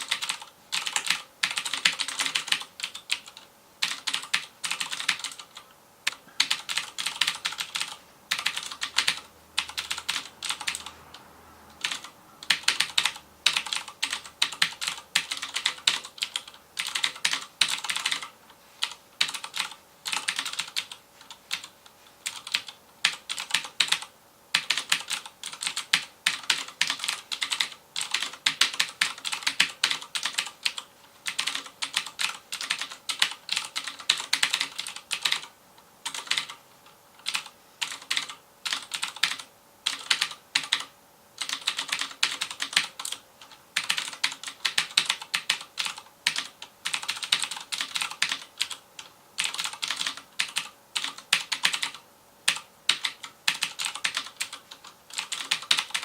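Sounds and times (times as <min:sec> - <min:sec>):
clicky mechanical keyboard typing: 0:00.0 - 0:11.2, 0:11.8 - 0:56.0.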